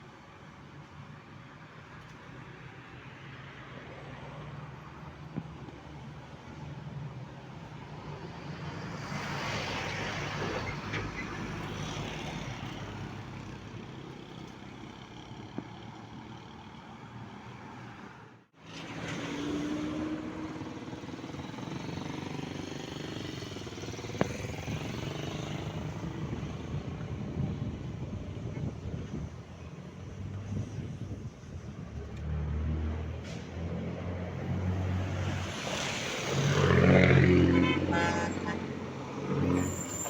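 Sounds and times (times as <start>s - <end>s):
traffic passing: 0.0s - 40.0s.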